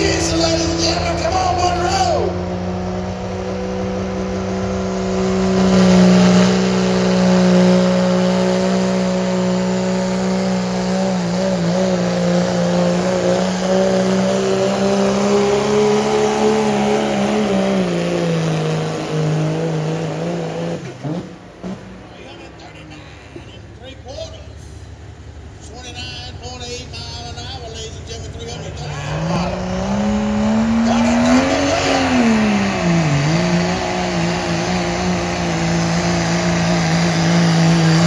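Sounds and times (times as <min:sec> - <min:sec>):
diesel engine at full throttle: 0:00.0 - 0:38.0.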